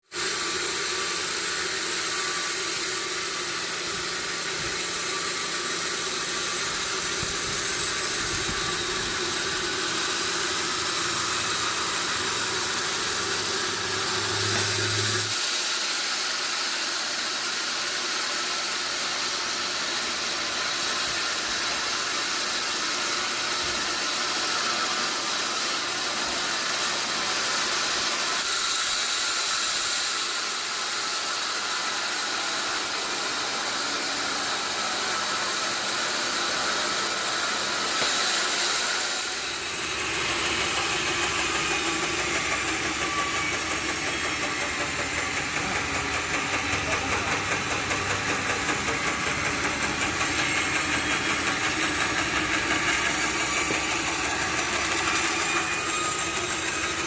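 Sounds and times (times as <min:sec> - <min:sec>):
loud hiss: 0:00.0 - 0:57.0.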